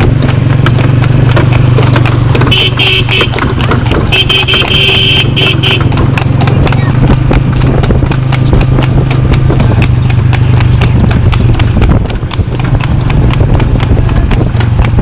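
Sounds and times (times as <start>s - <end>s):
hooves clip-clopping on pavement: 0.0s - 15.0s.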